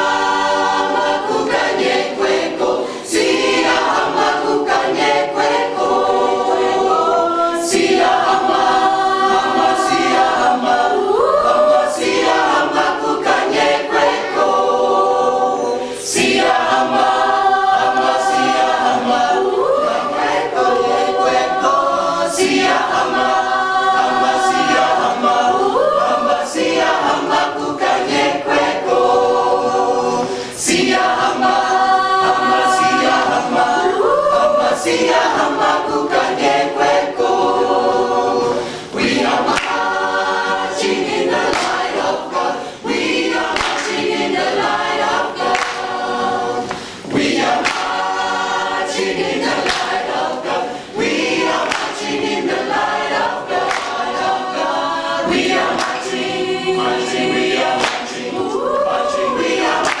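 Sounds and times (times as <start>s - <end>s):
choir singing: 0.0s - 60.0s.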